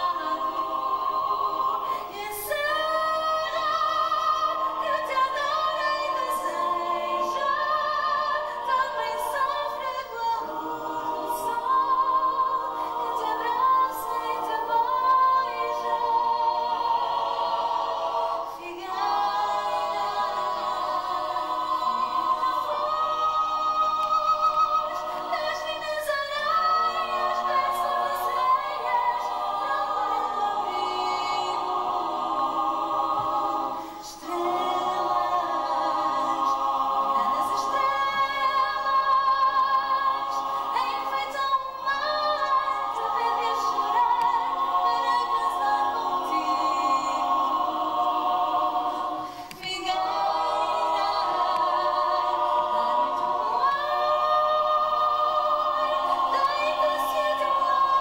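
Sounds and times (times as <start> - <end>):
people singing in harmony: 0.0 - 58.0.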